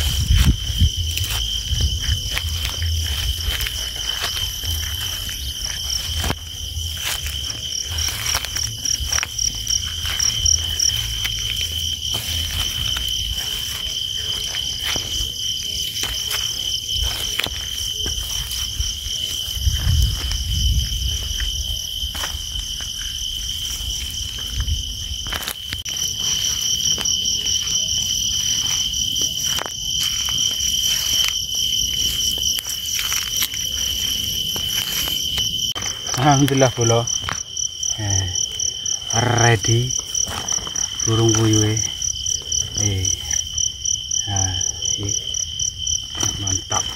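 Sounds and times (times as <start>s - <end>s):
insects chirring: 0.0s - 46.9s
pulsing insect trill: 0.0s - 46.9s.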